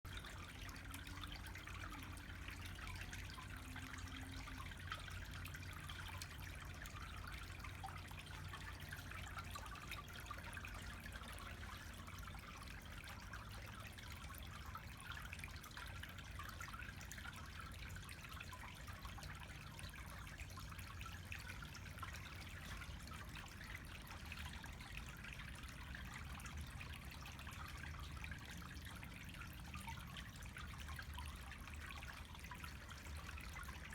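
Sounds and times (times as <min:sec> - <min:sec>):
fountain water trickling: 0:00.0 - 0:33.9
low steady rumble: 0:00.0 - 0:33.9.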